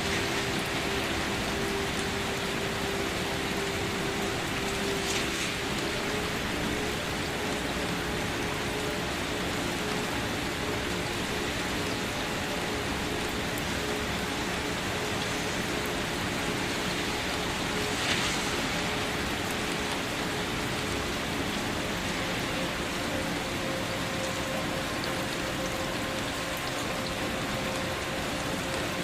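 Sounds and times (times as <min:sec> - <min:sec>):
rain pattering on a surface: 0:00.0 - 0:29.0.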